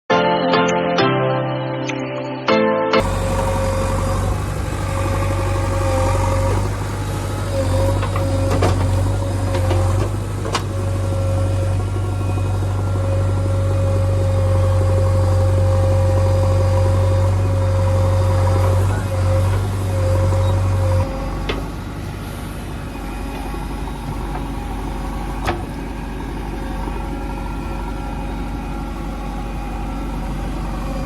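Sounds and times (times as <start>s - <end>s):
backhoe diesel engine running: 3.0s - 31.0s
engine whine: 3.0s - 31.0s.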